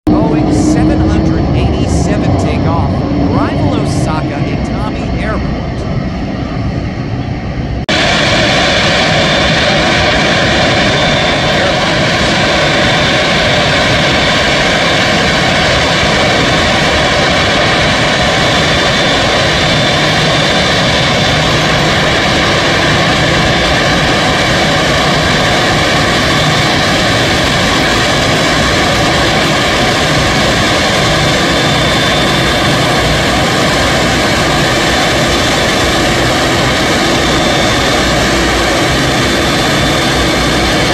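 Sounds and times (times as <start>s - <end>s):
jet engines running with whine: 0.0s - 40.9s.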